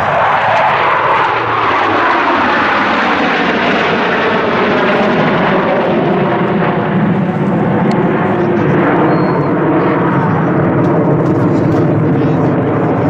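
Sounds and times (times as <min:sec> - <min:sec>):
jet roar flying past: 0:00.0 - 0:13.0.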